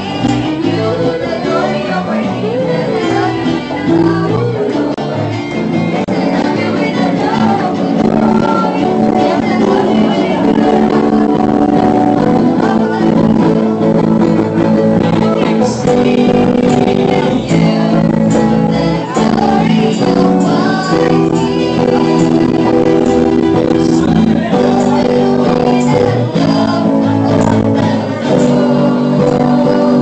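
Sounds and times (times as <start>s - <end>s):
electric guitar: 0.0s - 30.0s
voices singing into microphones: 0.0s - 30.0s.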